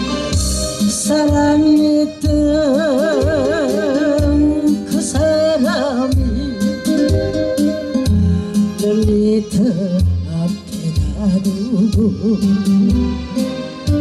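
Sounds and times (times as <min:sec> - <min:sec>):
song over a pa system: 0:00.0 - 0:14.0.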